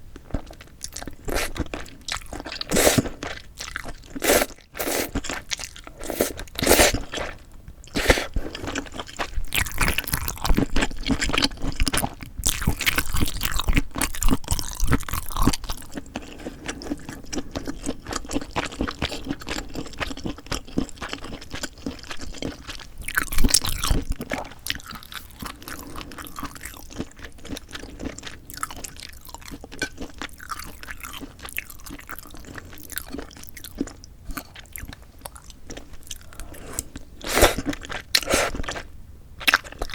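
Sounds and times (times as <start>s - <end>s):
chewing with crisp crunches: 0.2s - 39.9s.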